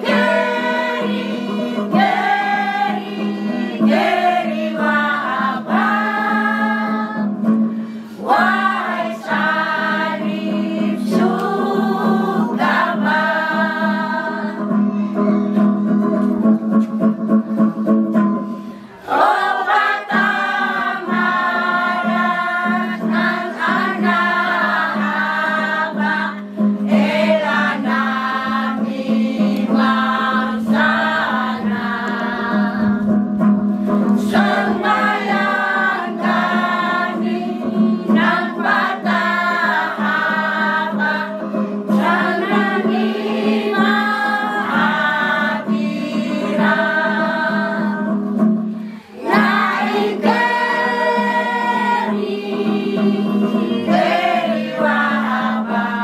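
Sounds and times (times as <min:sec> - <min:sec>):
choir singing a hymn: 0:00.0 - 0:15.0, 0:18.8 - 0:33.3, 0:33.9 - 0:56.0.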